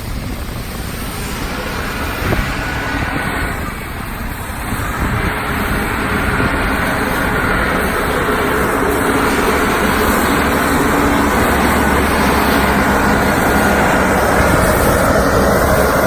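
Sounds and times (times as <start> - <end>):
concrete mixer engine running: 0.0 - 16.0.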